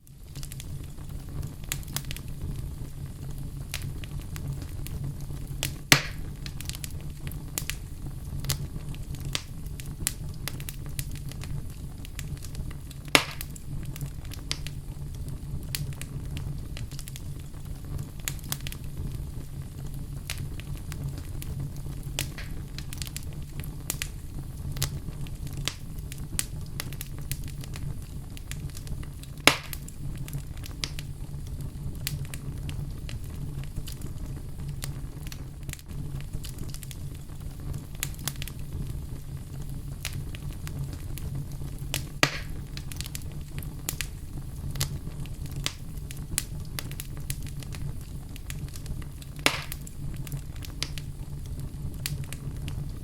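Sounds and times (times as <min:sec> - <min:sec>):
loud fire pops: 0:00.0 - 0:53.0
low rumble of fire: 0:00.0 - 0:53.0
wood fire crackling: 0:00.0 - 0:53.0.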